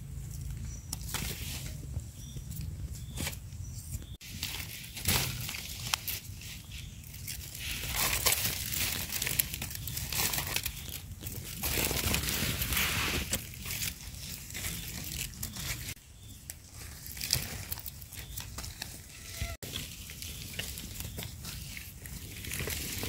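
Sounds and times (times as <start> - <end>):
dry leaves crunching: 4.2 - 23.0.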